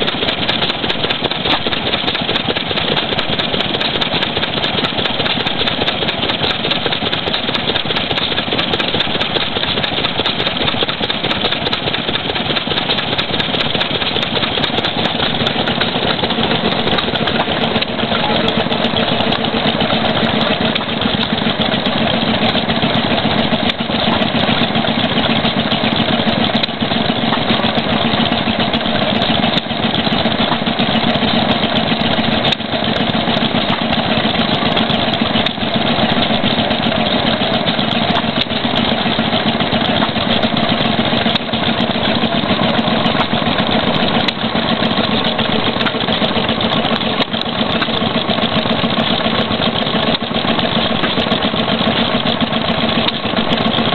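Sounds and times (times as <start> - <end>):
stationary engine running slowly: 0.0 - 53.9.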